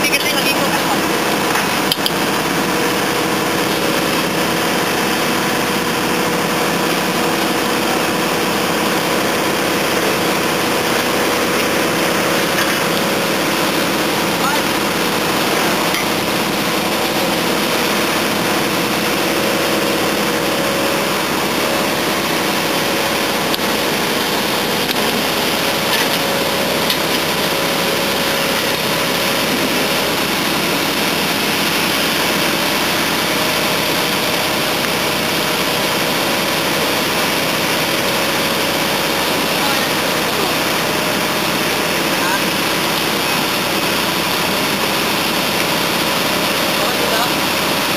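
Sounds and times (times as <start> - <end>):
paving machine engine running: 0.0 - 47.9.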